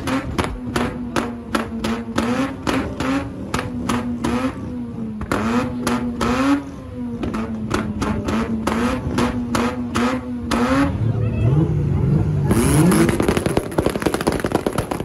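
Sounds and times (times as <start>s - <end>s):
exhaust bangs and pops: 0.0s - 10.8s, 12.5s - 15.0s
car engine at high revs: 0.0s - 15.0s.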